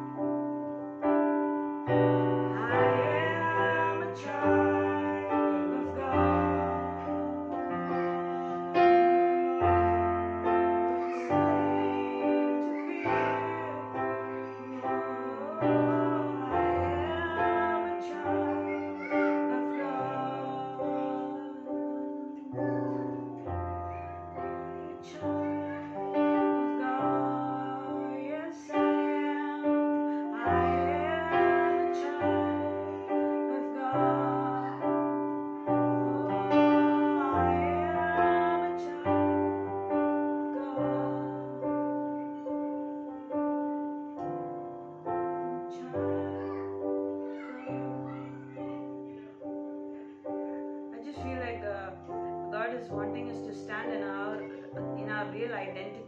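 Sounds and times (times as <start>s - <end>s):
slow worship music on keyboard: 0.0s - 56.0s.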